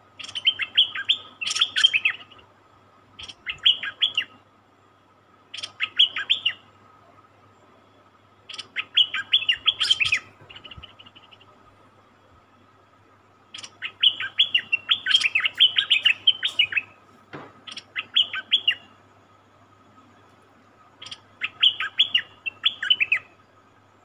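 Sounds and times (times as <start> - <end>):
bird chirping: 0.0 - 2.5, 3.1 - 23.9.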